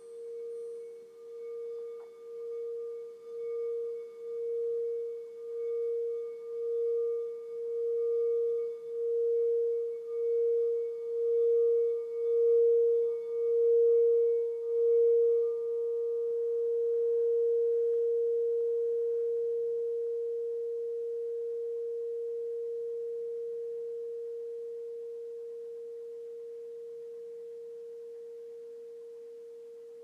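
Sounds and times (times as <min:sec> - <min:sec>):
singing bowl ringing: 0:00.0 - 0:30.0.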